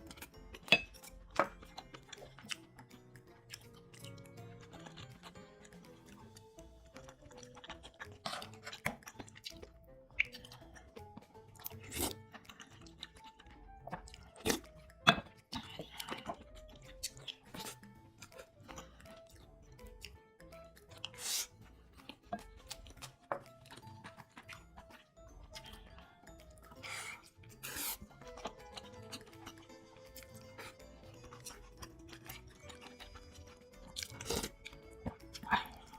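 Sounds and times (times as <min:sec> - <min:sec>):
chewing and crunching food: 0:00.0 - 0:35.9
soft background music: 0:00.0 - 0:35.9.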